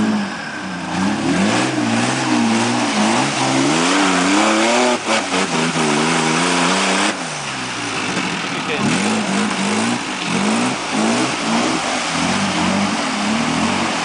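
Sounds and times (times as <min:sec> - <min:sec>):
engine revving hard: 0:00.0 - 0:14.0.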